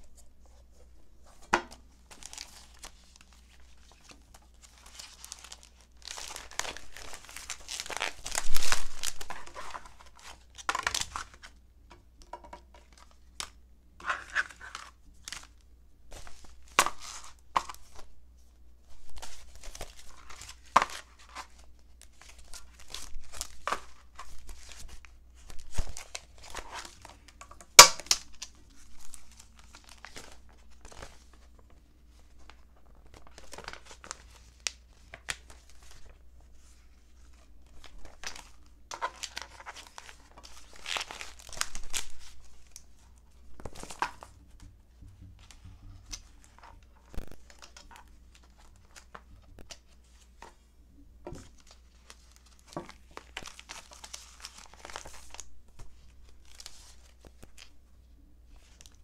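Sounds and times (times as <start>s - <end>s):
plastic pages crinkling: 0.1s - 11.6s, 12.6s - 18.1s, 18.8s - 57.8s, 58.5s - 59.0s.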